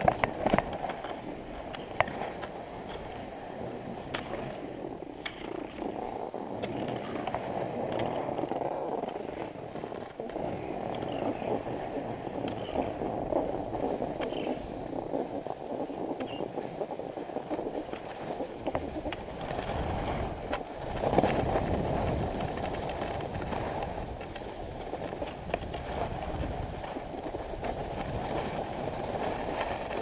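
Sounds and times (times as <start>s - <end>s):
skis scraping on snow: 0.0s - 30.0s.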